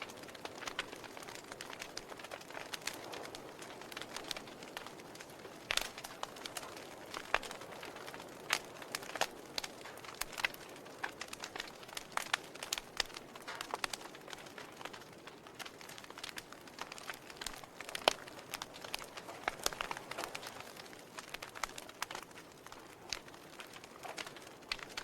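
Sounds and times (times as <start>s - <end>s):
log fire crackling and popping: 0.0s - 25.0s
soft steady hiss: 0.0s - 25.0s.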